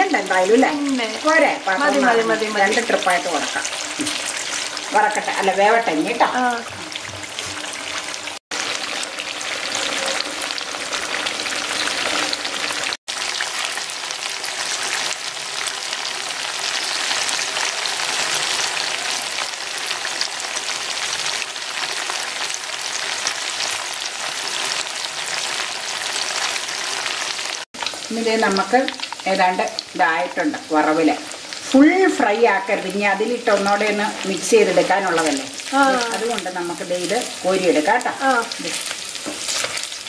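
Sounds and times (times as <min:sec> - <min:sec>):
chicken frying in bubbling oil: 0:06.0 - 0:40.0.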